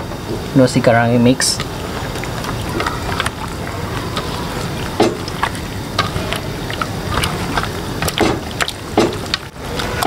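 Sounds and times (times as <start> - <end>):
hands squishing wet food: 1.4 - 10.0.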